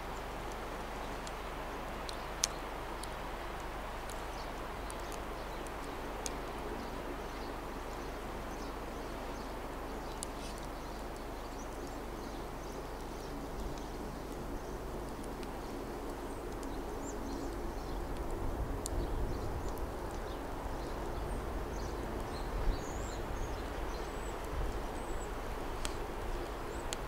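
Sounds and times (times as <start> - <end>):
small ticks: 0.1 - 8.7, 9.3 - 27.0.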